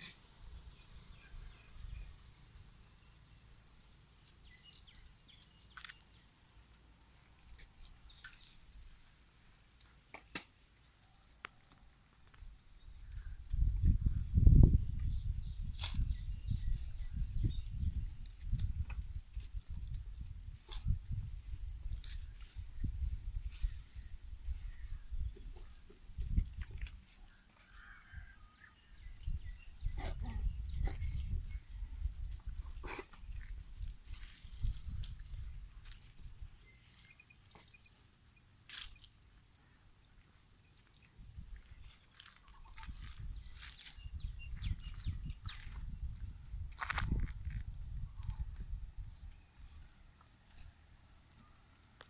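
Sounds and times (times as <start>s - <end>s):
small birds chirping: 0.0s - 11.7s, 12.3s - 19.6s, 20.4s - 52.0s.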